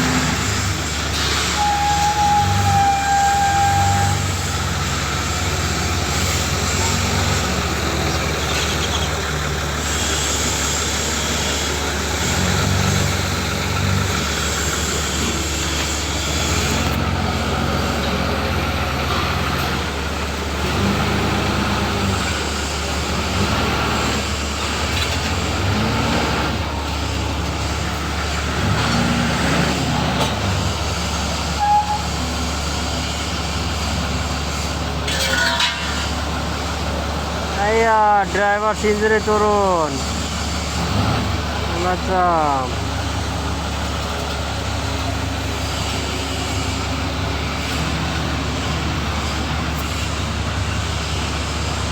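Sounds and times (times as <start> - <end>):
large vehicle engine humming: 0.0 - 51.9.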